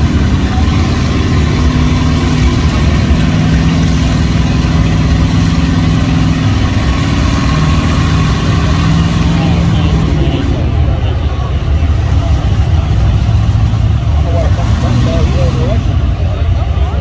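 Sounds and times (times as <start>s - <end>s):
truck engines rumbling: 0.0s - 17.0s.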